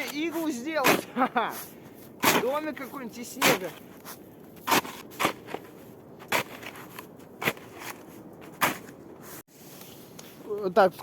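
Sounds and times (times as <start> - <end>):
shovel crunching into snow: 0.0 - 10.6.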